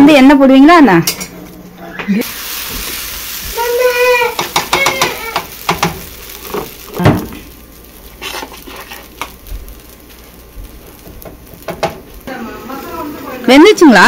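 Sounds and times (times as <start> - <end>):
food sizzling in oil: 2.2 - 14.0.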